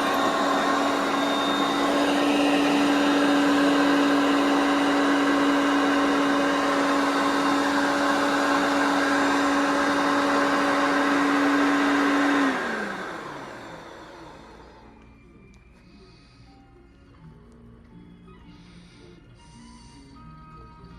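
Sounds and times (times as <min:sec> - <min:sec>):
vacuum cleaner motor whine: 0:00.0 - 0:20.9.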